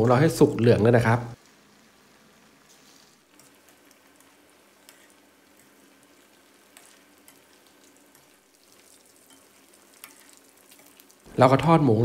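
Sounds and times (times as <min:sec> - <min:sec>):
deep-frying in hot oil: 0:00.0 - 0:12.0.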